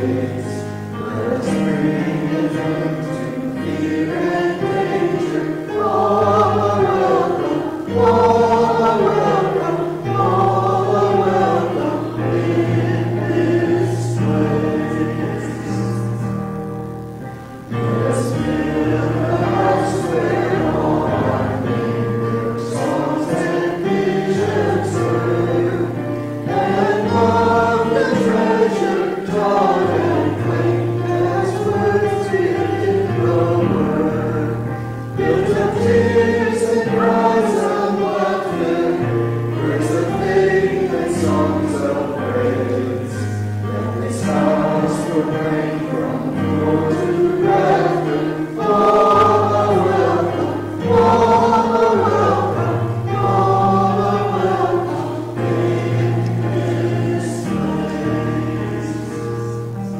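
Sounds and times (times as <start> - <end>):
congregation singing a hymn: 0.0 - 59.9
piano accompaniment: 0.0 - 59.9.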